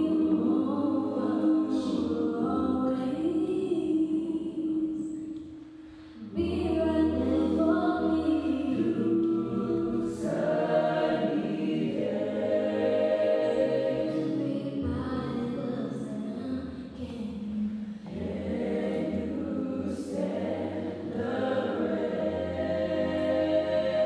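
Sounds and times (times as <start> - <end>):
a cappella group singing: 0.0 - 24.0.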